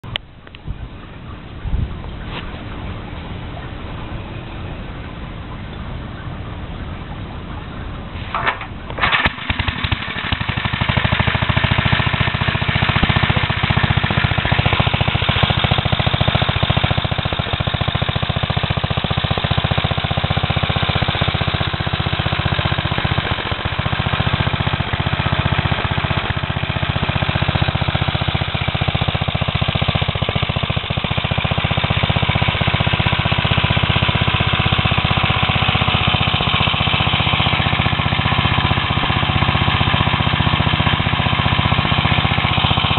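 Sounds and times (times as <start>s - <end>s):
engine running with rapid pulsing: 0.0s - 42.9s.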